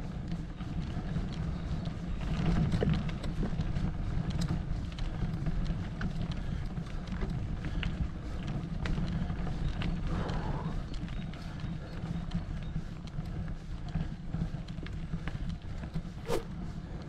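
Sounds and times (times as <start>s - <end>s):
bike tyres rumbling over dirt: 0.0s - 17.0s
stones and bike rattling: 0.0s - 17.0s
wind rumble on microphone: 0.0s - 17.0s.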